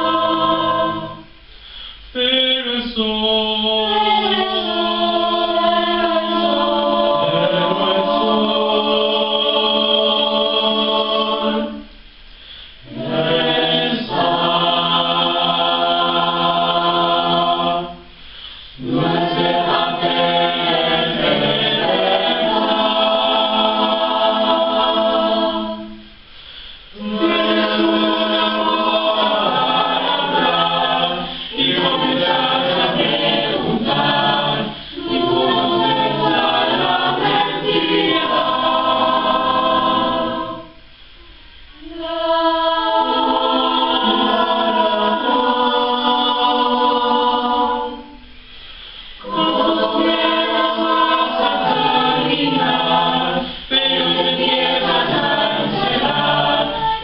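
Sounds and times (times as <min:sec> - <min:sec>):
choir singing a cappella: 0:00.0 - 0:01.5, 0:02.1 - 0:12.2, 0:12.8 - 0:57.0.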